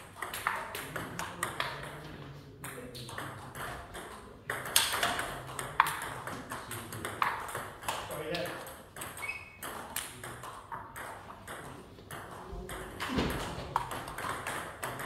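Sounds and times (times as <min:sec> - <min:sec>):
ping pong ball hitting bats: 0:00.0 - 0:15.0
ball bouncing on table: 0:00.2 - 0:15.0.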